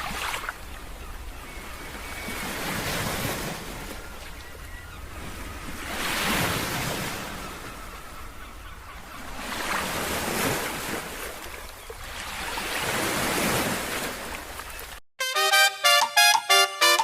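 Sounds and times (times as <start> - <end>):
waves breaking on beach: 0.0 - 8.3, 9.2 - 15.0.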